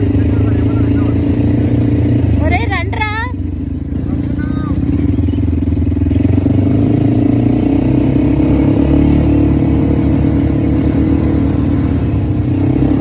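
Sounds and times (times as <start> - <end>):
engine running loudly: 0.0 - 13.0.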